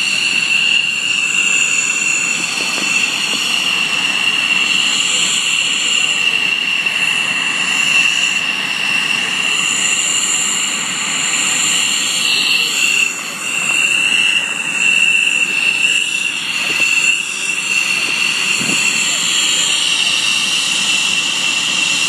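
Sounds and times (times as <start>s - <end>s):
jet engine whine and roar: 0.0s - 22.0s.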